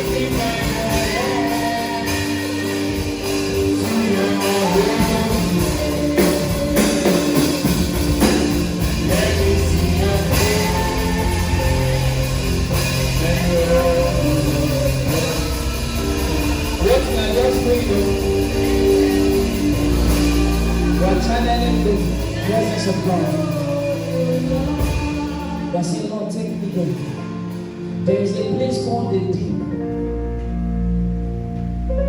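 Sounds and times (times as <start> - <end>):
people singing: 0.0 - 26.9
band playing worship song: 0.0 - 32.0.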